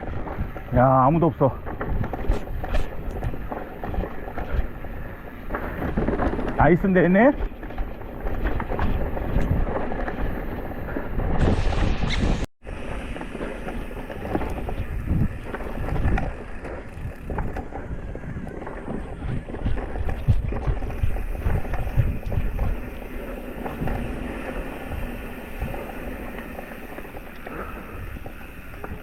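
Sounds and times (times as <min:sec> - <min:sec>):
wind buffeting microphone: 0:00.0 - 0:12.5, 0:13.1 - 0:29.0
bike rattling: 0:00.0 - 0:29.0
bike tyres rolling: 0:00.0 - 0:29.0.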